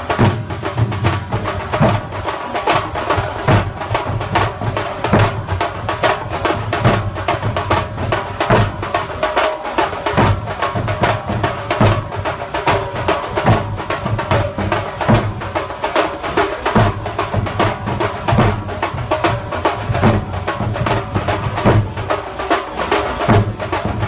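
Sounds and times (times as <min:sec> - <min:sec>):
heavy bass drum strokes: 0:00.0 - 0:24.0
rapid dense drumming: 0:00.0 - 0:24.0.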